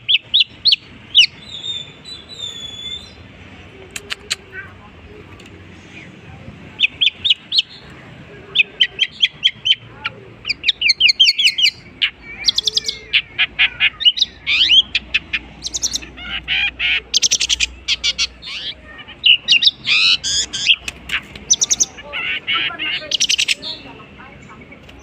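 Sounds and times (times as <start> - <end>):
bird singing chirps and trills: 0.0 - 6.2, 6.8 - 25.0.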